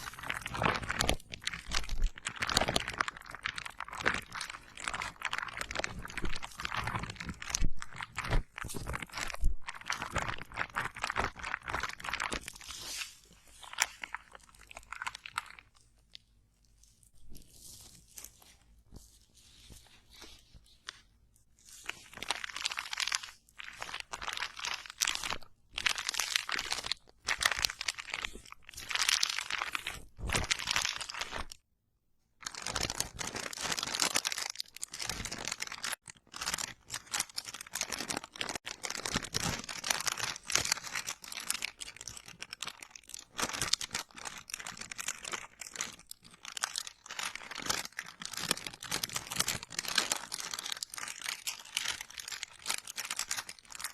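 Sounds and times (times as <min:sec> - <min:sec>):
close-miked crinkling and crunching: 0:00.0 - 0:31.6, 0:32.4 - 0:53.9.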